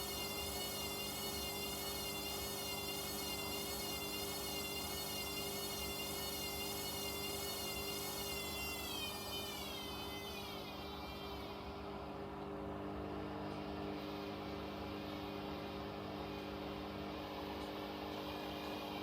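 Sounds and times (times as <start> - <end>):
washing machine spin whine: 0.0 - 19.0.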